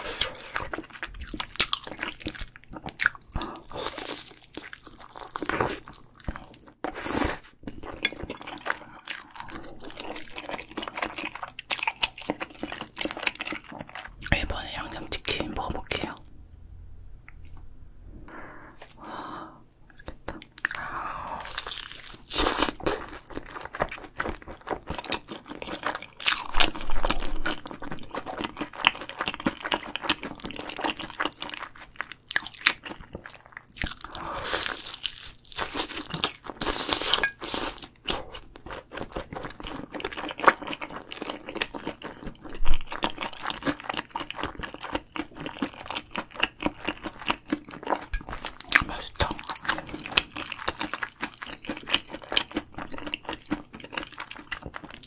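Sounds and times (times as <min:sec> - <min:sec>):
chewing: 0:00.0 - 0:07.0, 0:07.6 - 0:15.0, 0:19.8 - 0:55.0.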